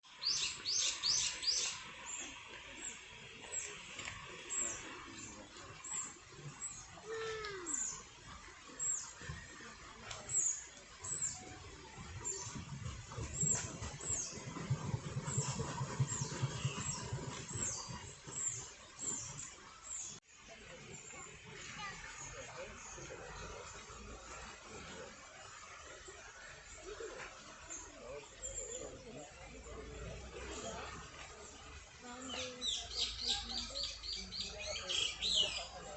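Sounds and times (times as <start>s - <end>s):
gurgling brook: 0.0s - 35.9s.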